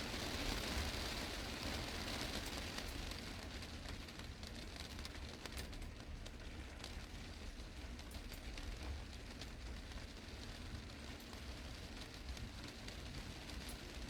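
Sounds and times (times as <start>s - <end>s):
heavy rain on glass roof: 0.0s - 14.0s.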